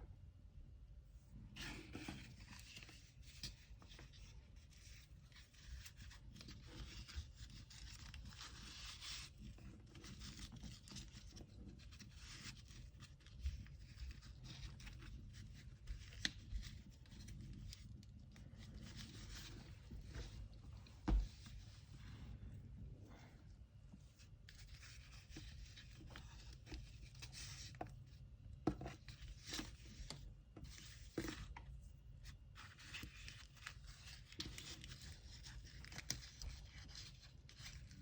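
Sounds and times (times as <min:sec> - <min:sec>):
paper rustling and crinkling: 0:01.6 - 0:22.5, 0:24.1 - 0:38.0.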